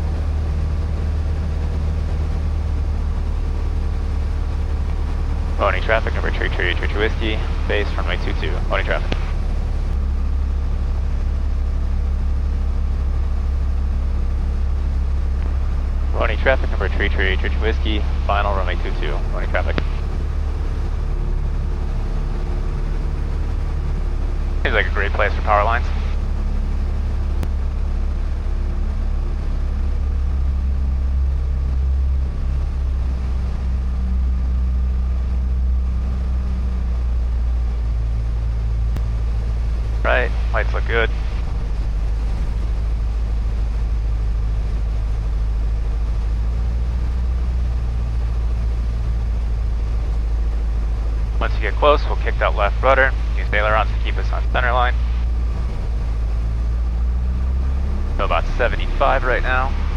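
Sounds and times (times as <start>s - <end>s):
airplane engine droning: 0.0s - 59.9s.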